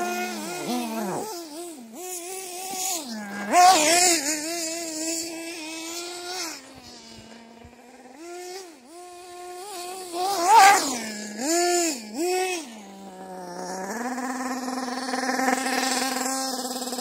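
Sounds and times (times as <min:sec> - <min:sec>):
model car engine revving: 0:00.0 - 0:17.0.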